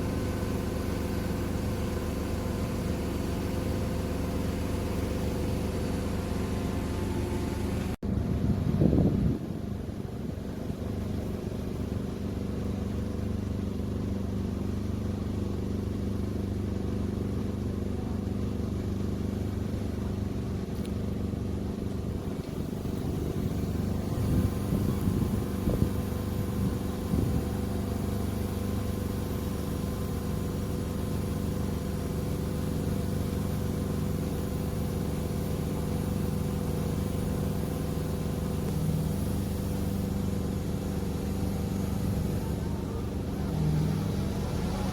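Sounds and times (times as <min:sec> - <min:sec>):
crane diesel engine running: 0:00.0 - 0:44.9.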